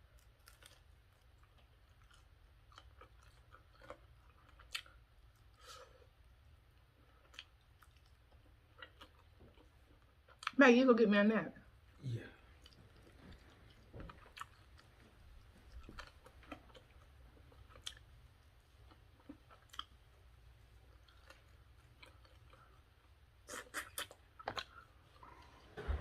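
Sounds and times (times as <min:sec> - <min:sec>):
chewing and mouth clicks: 0:00.0 - 0:06.0, 0:06.6 - 0:10.6, 0:12.4 - 0:25.6.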